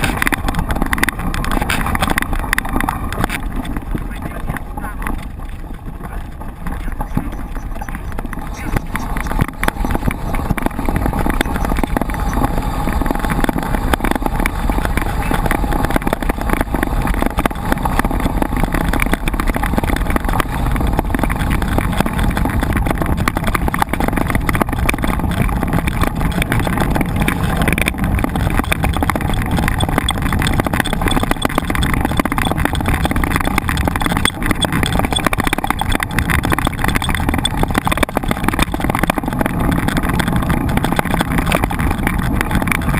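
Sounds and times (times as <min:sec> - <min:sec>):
mountain bike rattling over rough ground: 0:00.0 - 0:42.9
wind buffeting microphone: 0:00.0 - 0:42.9.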